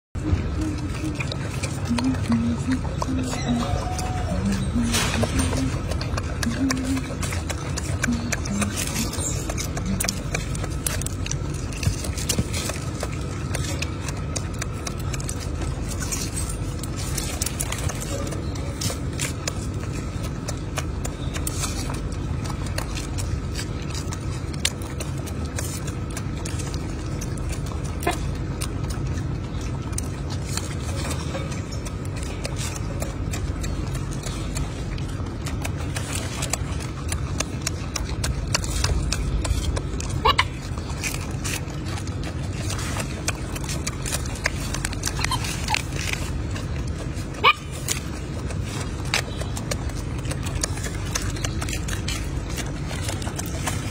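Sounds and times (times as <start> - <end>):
low rumble: 0.2 - 53.9.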